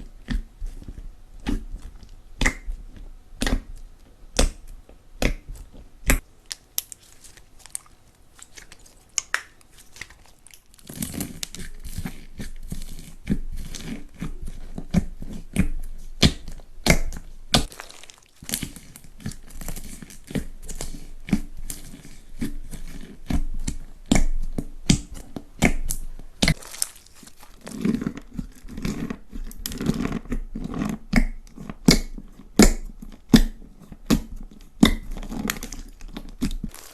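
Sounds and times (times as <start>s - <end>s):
slime crackling and popping: 1.4s - 36.9s.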